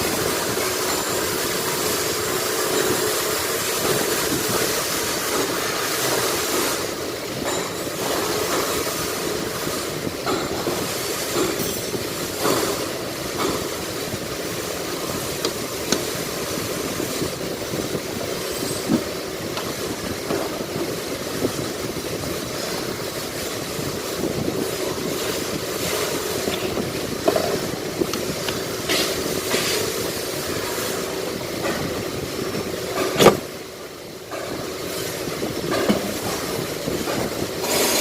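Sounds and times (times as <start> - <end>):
steady background noise: 0.0 - 38.0.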